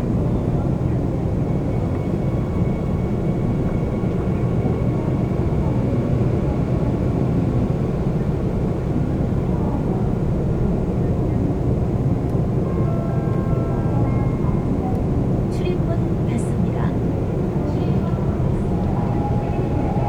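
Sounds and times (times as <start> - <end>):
subway train rumbling on rails: 0.0 - 20.0.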